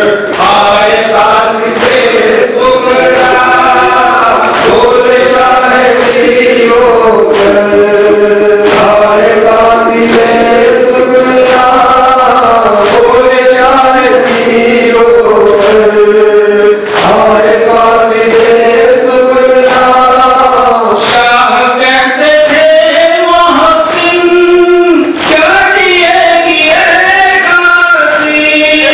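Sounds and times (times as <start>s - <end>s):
men chanting over loudspeakers: 0.0s - 28.9s
sharp rhythmic beat: 0.0s - 28.9s.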